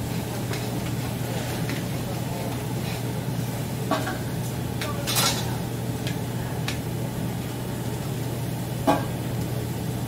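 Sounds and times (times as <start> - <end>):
egg frying in a wok: 0.0 - 10.0
stove hum: 0.0 - 10.0.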